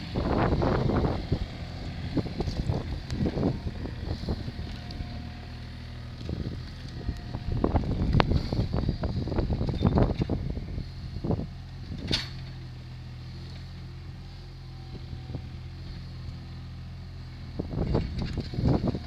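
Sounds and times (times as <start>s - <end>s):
loader engine idling and revving: 0.0s - 19.0s.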